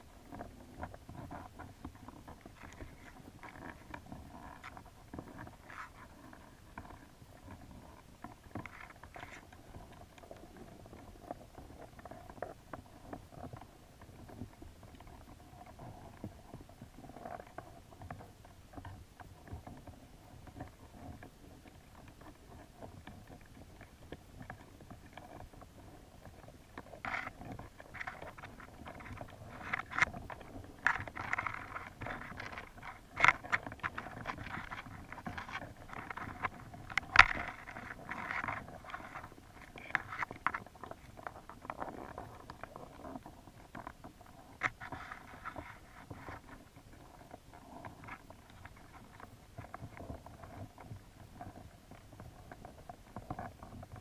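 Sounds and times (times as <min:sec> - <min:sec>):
clicks and crackles: 0:00.0 - 0:54.0.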